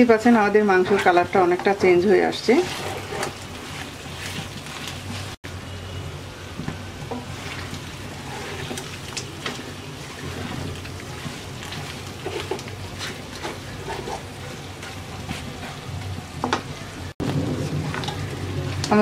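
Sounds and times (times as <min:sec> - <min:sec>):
meat sizzling and crackling in oil: 0:00.0 - 0:05.4, 0:06.6 - 0:19.0
wooden spatula scraping: 0:00.0 - 0:05.4, 0:06.6 - 0:19.0.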